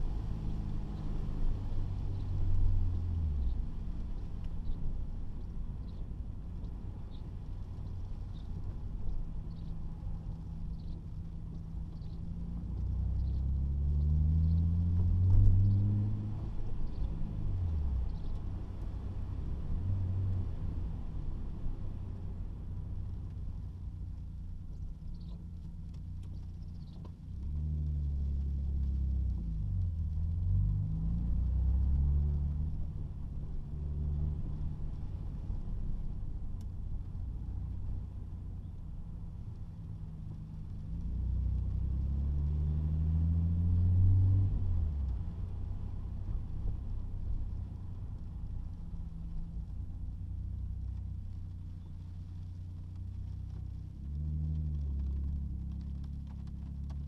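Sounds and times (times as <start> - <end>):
car engine accelerating: 6.6 - 57.0.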